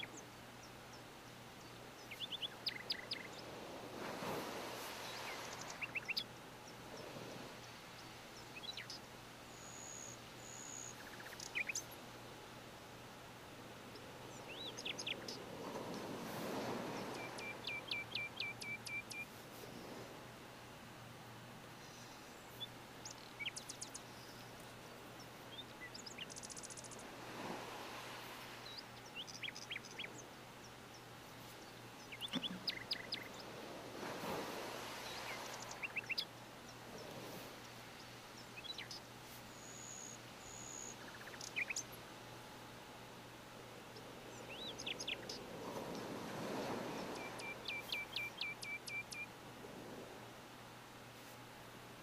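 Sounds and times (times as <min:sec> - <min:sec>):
faint birds chirping: 0:00.0 - 0:50.1
background hiss: 0:00.0 - 0:52.0.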